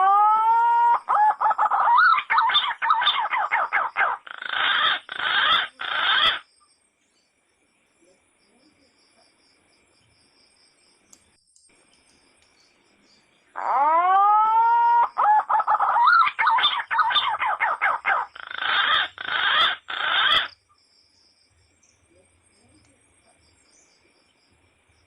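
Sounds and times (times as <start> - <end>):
faint high chirping: 0.0 - 9.2, 10.7 - 25.0.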